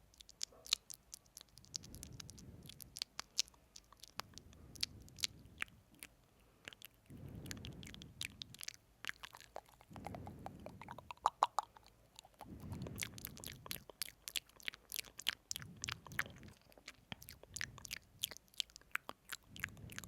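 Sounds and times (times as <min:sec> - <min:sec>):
tongue clicks: 0:00.0 - 0:20.0
wet lip smacks: 0:00.0 - 0:20.0
soft low rush: 0:01.4 - 0:18.5.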